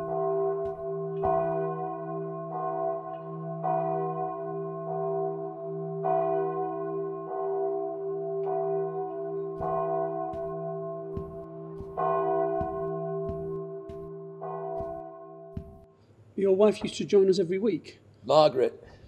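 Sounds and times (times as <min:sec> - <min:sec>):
church bells ringing: 0:00.0 - 0:15.9.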